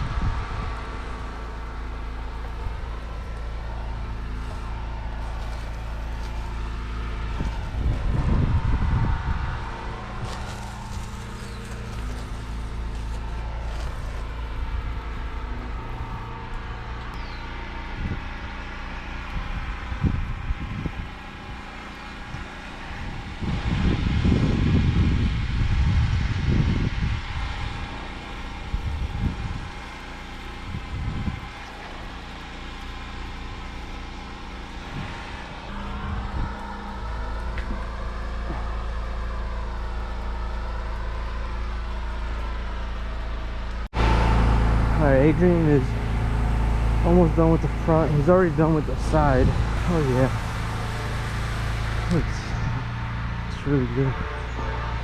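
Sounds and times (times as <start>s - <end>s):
pressure washer running: 0.0s - 54.8s
low rumbling: 0.0s - 55.0s.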